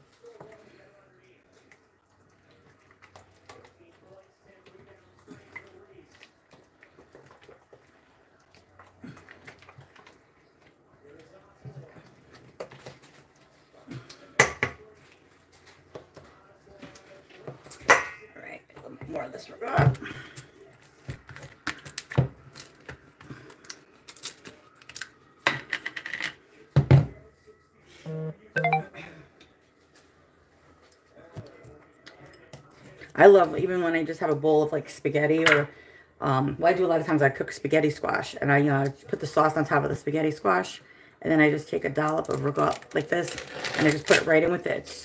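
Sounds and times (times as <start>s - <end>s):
wet squishing of stirred mixture: 0.0s - 25.4s, 29.8s - 45.0s.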